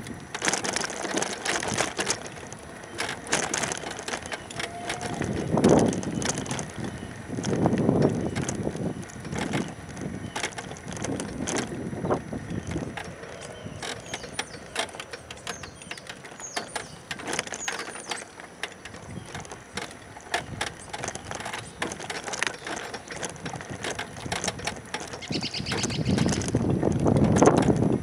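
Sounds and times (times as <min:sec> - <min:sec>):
wind gusts on microphone: 0:00.0 - 0:17.6, 0:18.9 - 0:28.0
wheelchair rattling over concrete: 0:00.0 - 0:28.0.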